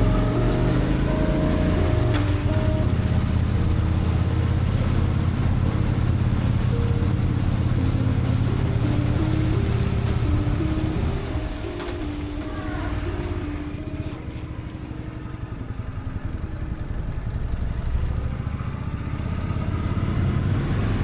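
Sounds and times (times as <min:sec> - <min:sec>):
soft background melody: 0:00.0 - 0:17.3
motorcycle engine running: 0:00.0 - 0:21.0.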